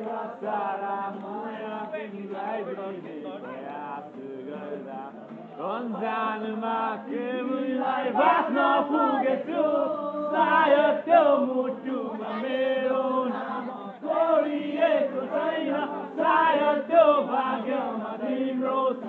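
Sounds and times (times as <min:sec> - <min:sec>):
young men singing and chanting: 0:00.0 - 0:19.0.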